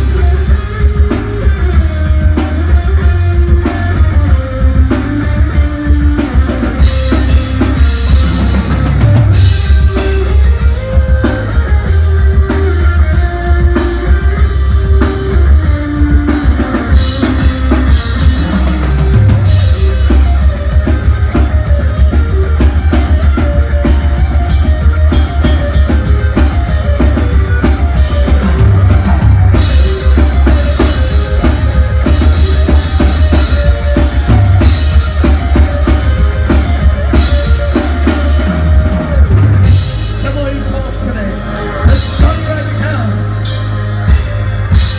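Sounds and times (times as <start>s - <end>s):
busy drum kit: 0.0s - 44.9s
live rock band playing: 0.0s - 44.9s.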